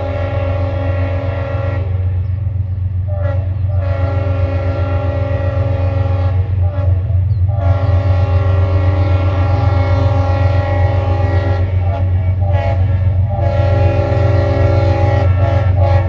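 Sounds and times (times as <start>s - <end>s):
locomotive air horn blasts: 0.0s - 2.4s, 3.0s - 16.0s
passing train rumble: 0.0s - 16.0s.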